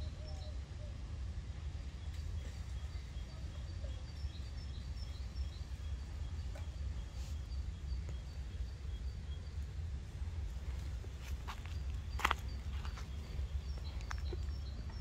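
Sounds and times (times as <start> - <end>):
low background rumble: 0.0 - 15.0
small birds chirping: 1.6 - 15.0.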